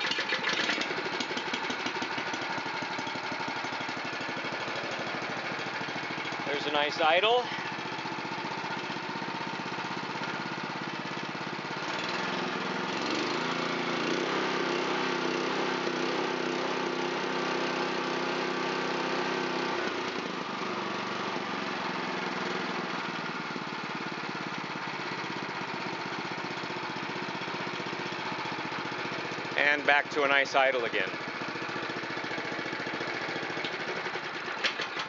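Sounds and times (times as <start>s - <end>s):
water pump engine idling and revving: 0.0s - 35.0s.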